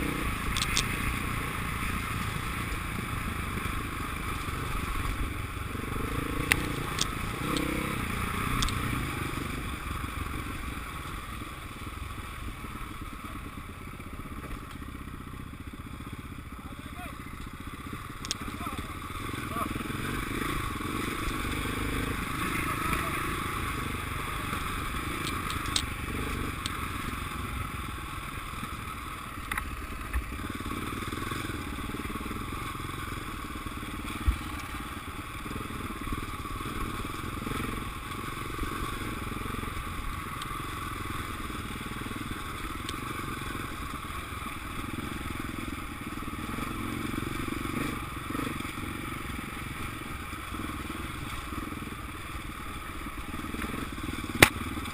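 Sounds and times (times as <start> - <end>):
motocross motorcycles running: 0.0 - 54.9.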